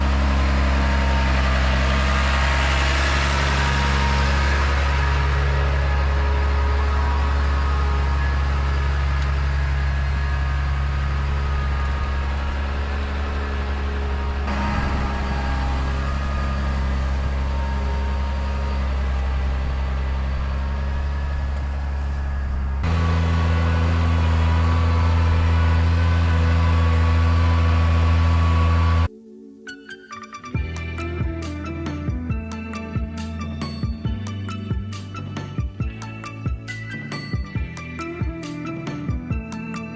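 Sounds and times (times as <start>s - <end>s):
heavy engine humming: 0.0s - 29.1s, 30.6s - 39.9s.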